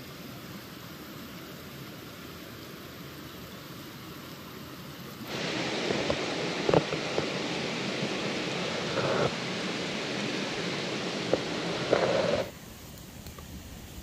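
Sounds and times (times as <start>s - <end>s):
steady rushing hiss: 0.0s - 14.0s.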